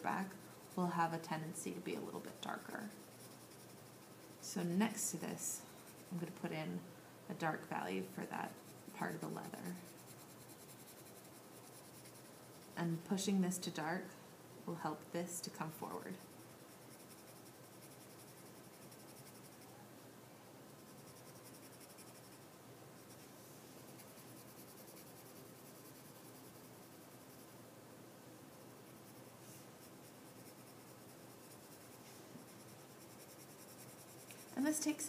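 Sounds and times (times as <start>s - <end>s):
pencil scratching on paper: 0.0s - 6.6s, 7.5s - 13.3s, 15.8s - 19.7s, 20.7s - 22.4s, 23.0s - 27.5s, 28.6s - 35.0s.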